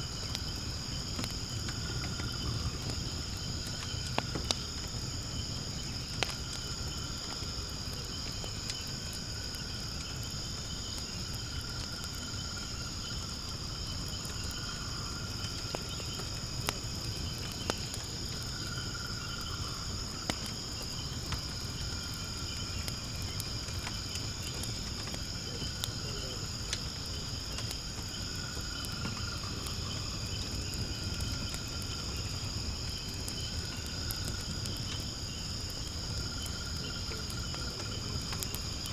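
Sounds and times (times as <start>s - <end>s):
insects chirring: 0.0s - 38.9s
wood fire popping and crackling: 0.0s - 38.9s.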